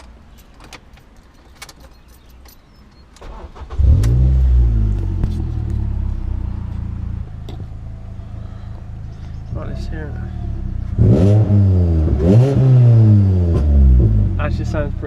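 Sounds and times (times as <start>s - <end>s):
car engine cranking and starting: 0.0s - 14.8s
car engine idling: 0.0s - 15.0s.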